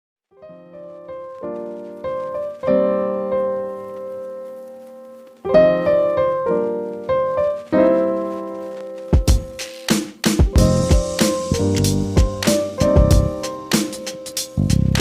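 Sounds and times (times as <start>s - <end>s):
piano chords ringing: 0.4s - 15.0s.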